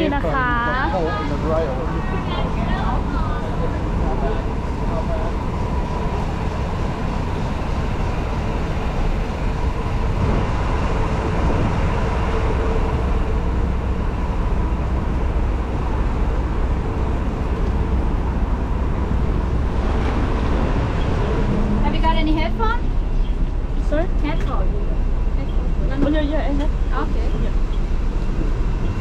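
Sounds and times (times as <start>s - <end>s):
bus engine and road noise: 0.0s - 29.0s.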